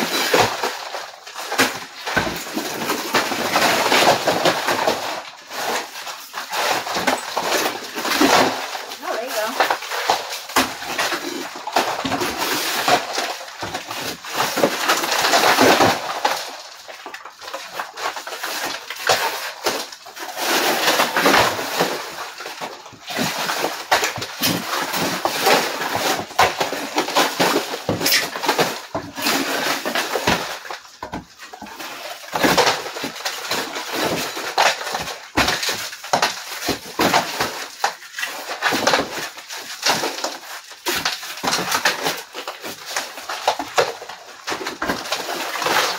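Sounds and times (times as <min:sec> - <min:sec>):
plaster crumbling: 0:00.0 - 0:45.9.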